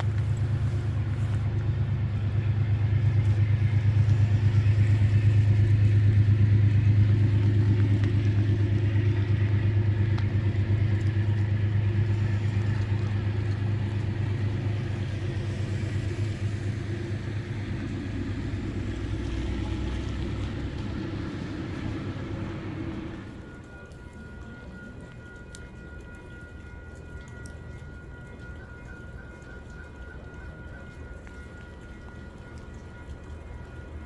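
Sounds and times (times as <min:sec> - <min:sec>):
diesel locomotive engine running: 0:00.0 - 0:34.0.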